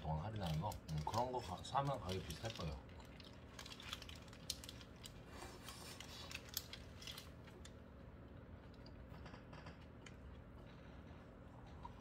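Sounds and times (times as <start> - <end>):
man chewing food: 2.4 - 12.0.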